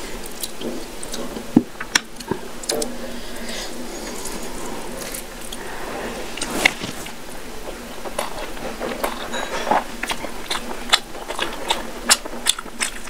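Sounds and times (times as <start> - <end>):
wet chewing: 0.2 - 13.0.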